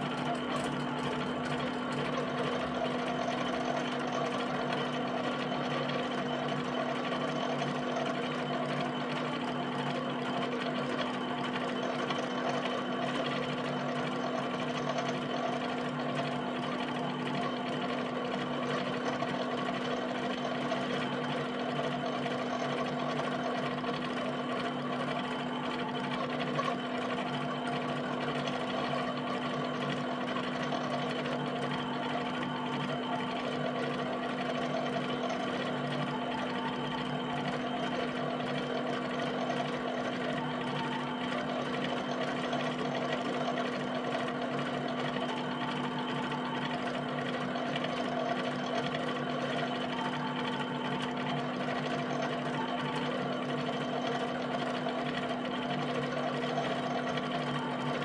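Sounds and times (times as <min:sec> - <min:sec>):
pen plotter mechanical chatter: 0:00.0 - 0:58.0.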